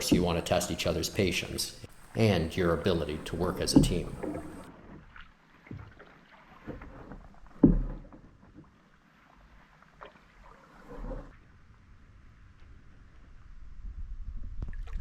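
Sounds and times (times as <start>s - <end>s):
canoe paddle strokes in water: 0.0s - 13.2s.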